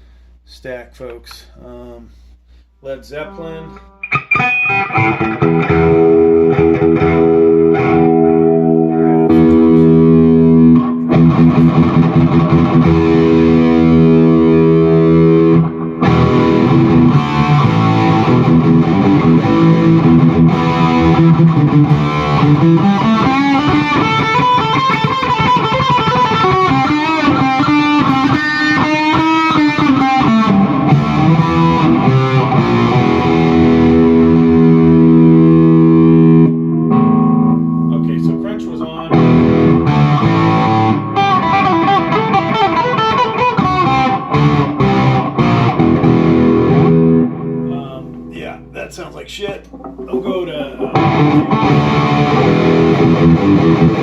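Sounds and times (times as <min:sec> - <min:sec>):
distorted electric guitar: 0:03.2 - 0:54.0.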